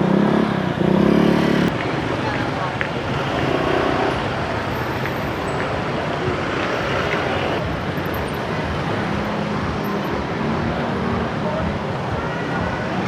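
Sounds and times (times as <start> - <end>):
motorbikes and cars passing: 0.0 - 13.0.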